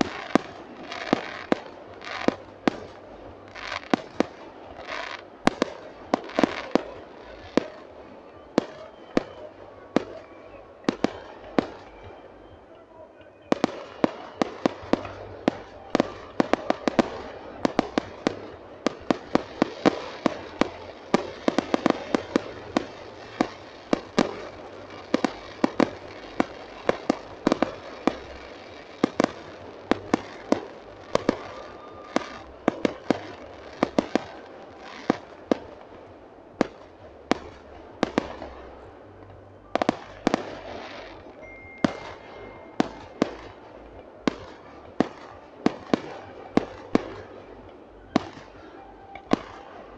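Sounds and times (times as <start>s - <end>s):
fireworks bursting with sharp bangs: 0.0s - 49.9s.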